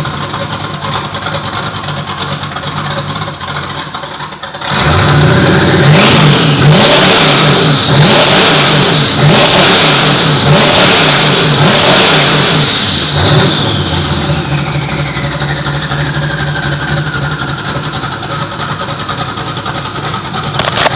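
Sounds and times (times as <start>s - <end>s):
car engine revving and idling: 0.0s - 20.9s.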